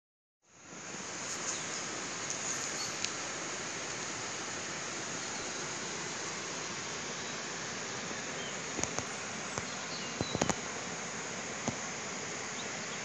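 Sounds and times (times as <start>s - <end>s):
outdoor background hiss: 0.4s - 13.0s.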